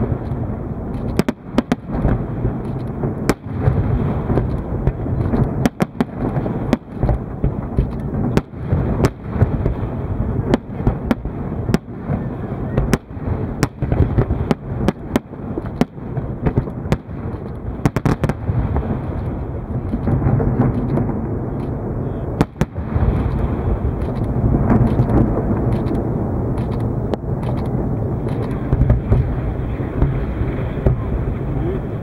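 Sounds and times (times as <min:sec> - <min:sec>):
fireworks bangs and crackles: 0:00.0 - 0:32.0
rumble of firework bursts: 0:00.0 - 0:32.0.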